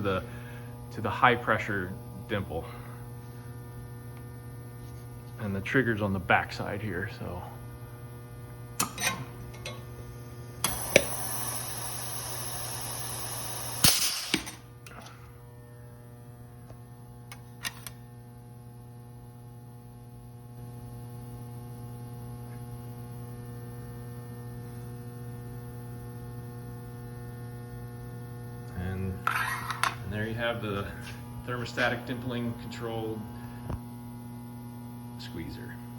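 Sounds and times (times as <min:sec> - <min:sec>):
electrical hum: 0:00.0 - 0:35.9.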